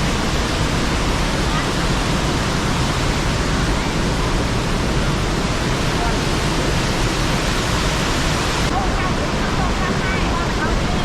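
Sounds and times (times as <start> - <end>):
loud rushing noise: 0.0 - 10.7.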